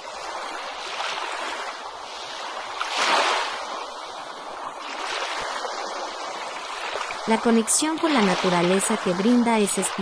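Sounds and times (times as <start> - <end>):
ocean waves washing on beach: 0.0 - 10.0.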